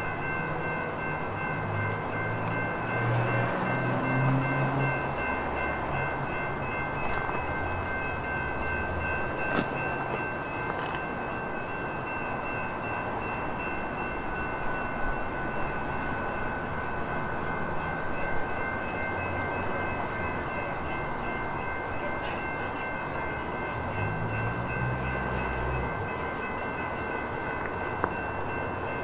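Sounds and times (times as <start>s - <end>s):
high ringing tones: 0.0s - 29.0s.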